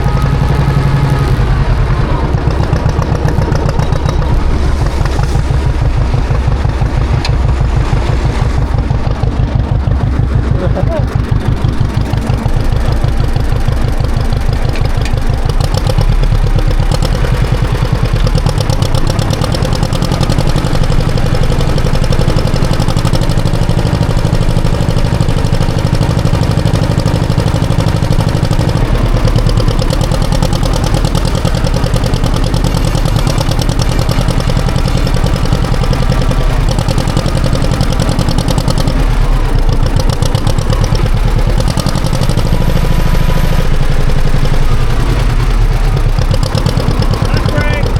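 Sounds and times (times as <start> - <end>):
tractor engine rumbling: 0.0 - 47.9.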